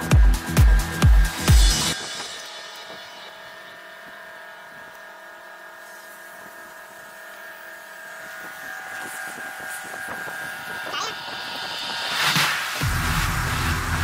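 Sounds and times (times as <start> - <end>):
mechanical hum with whine: 0.0 - 14.0.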